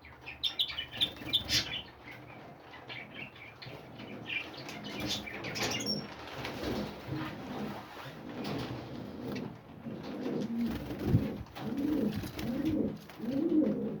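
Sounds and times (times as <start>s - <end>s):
pigeons cooing: 0.6s - 14.0s.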